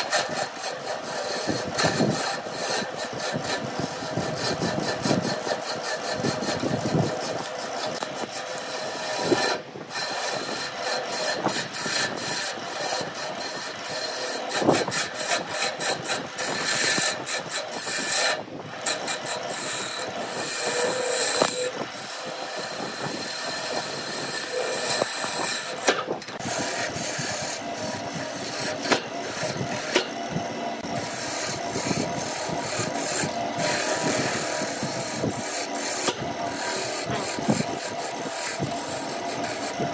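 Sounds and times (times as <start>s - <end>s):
chisel scraping spinning wood: 0.0s - 39.9s
lathe humming: 0.0s - 39.9s.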